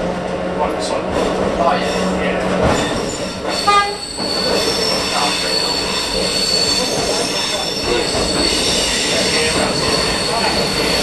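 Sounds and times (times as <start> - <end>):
railcar wheels rumbling: 0.0 - 11.0.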